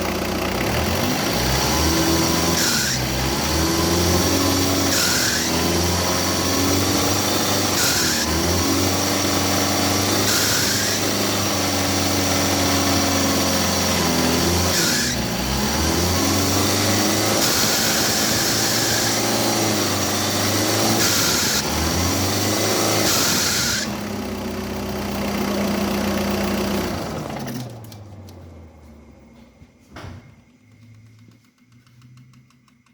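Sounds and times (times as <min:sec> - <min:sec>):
pickup engine idling and revving: 0:00.0 - 0:29.7.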